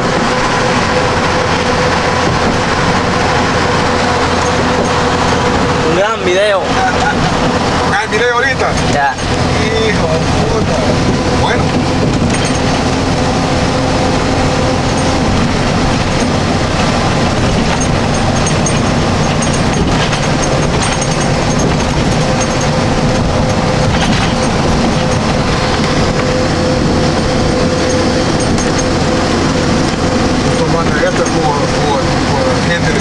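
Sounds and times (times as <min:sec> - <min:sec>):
engine and road noise in vehicle cab: 0:00.0 - 0:33.0.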